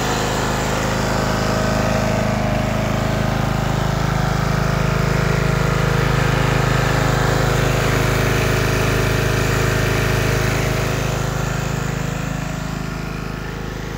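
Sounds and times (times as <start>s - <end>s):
ride-on mower engine running: 0.0s - 13.9s.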